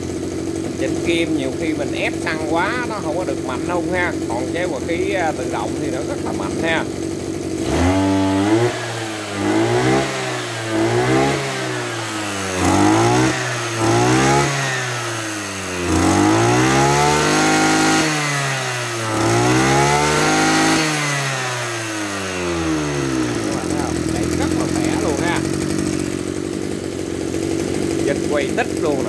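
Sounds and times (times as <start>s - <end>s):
brush cutter engine revving: 0.0s - 29.0s.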